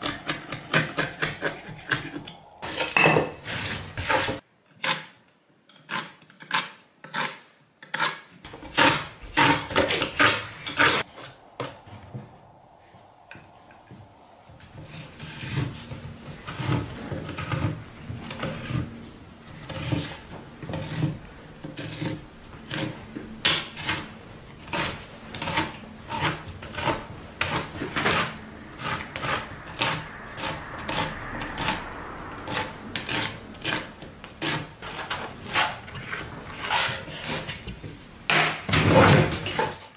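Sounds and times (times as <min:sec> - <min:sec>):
hand tool scraping wood: 0:00.0 - 0:05.2, 0:05.8 - 0:11.4, 0:14.8 - 0:31.8, 0:32.5 - 0:39.9.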